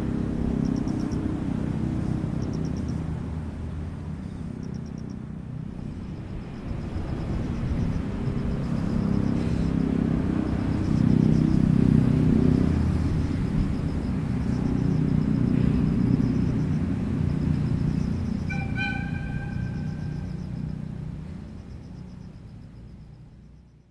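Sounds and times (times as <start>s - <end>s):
train rumbling past: 0.0s - 23.5s.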